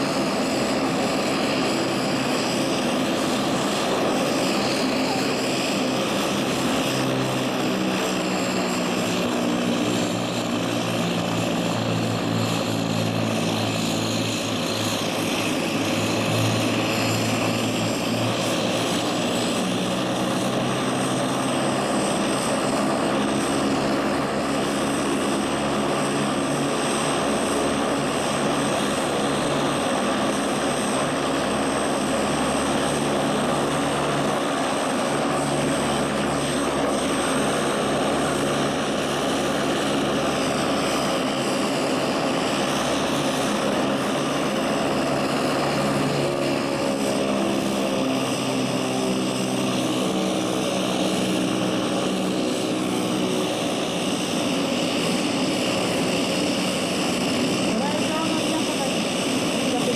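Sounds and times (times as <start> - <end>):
high turbine whine: 0.0 - 59.9
propeller drone: 0.0 - 59.9.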